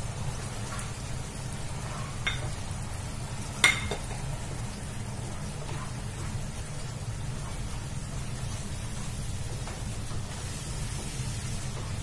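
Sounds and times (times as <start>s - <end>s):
masala frying in a pan: 0.0s - 12.0s.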